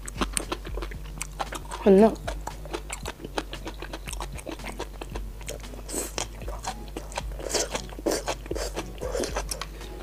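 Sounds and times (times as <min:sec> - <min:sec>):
crunchy food chewing: 0:00.0 - 0:10.0.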